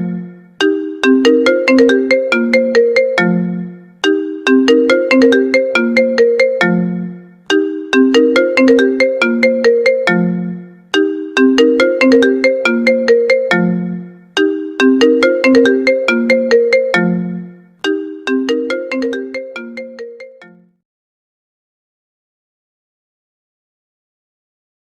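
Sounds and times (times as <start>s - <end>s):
phone ringtone melody: 0.0s - 20.6s.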